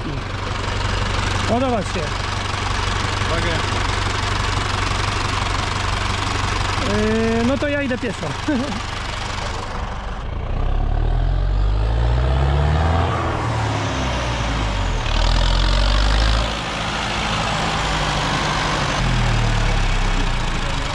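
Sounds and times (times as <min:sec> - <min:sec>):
diesel engine revving: 0:00.0 - 0:20.9.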